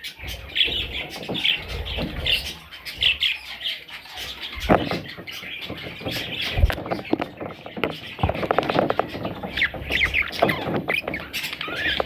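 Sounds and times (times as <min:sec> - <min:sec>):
chicks chirping and squawking: 0:00.0 - 0:12.0.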